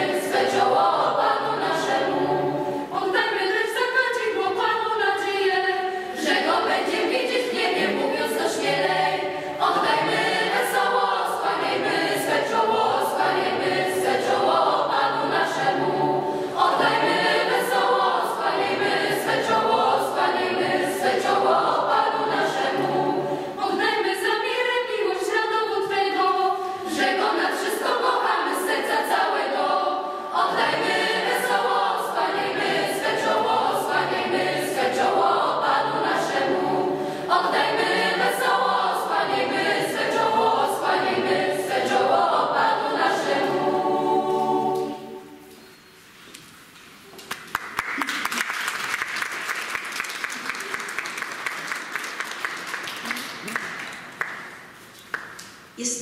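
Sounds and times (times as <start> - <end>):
youth choir singing a carol: 0.0 - 45.9.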